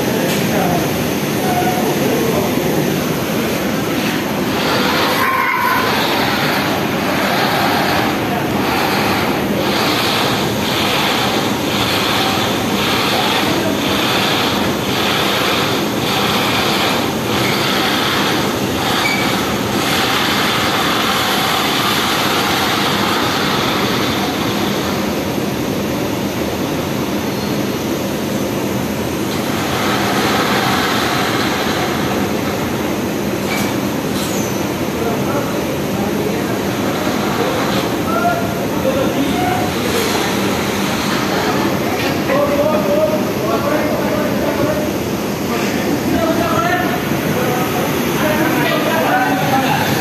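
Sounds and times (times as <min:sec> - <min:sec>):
industrial laundry machinery running: 0:00.0 - 0:50.0.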